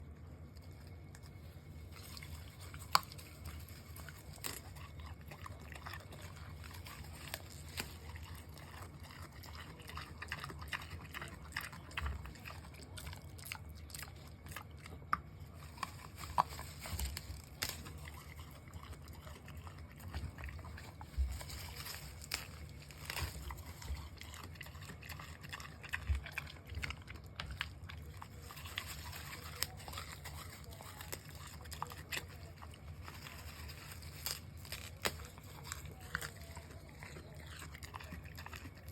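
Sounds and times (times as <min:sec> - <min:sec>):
pig crunching and chewing: 0:00.0 - 0:38.9
steady low hum: 0:00.0 - 0:38.9.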